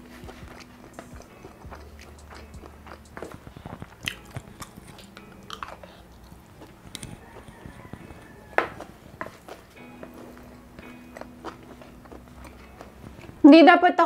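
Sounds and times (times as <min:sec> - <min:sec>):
chewing and mouth sounds: 0:00.0 - 0:13.4.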